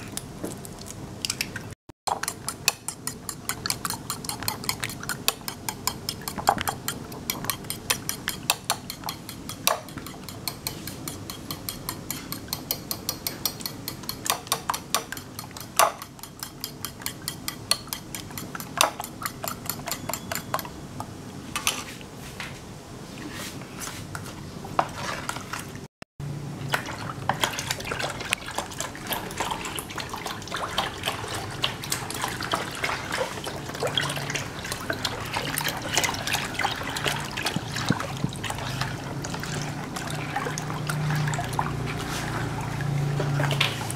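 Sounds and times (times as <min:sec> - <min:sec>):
spatula stirring wet mixture: 0:00.0 - 0:20.8, 0:23.2 - 0:25.8, 0:26.6 - 0:43.9
metal spoon beating eggs in bowl: 0:02.1 - 0:20.8, 0:27.0 - 0:43.9.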